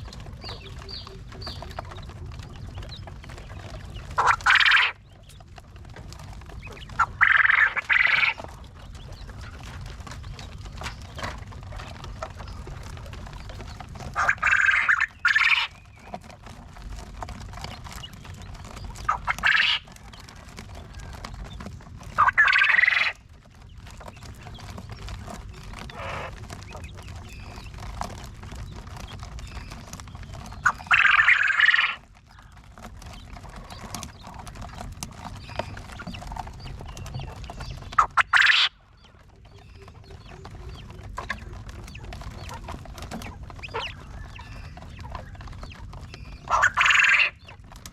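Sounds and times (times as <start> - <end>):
farm birds calling: 0.0 - 47.9
low background rumble: 0.0 - 47.9.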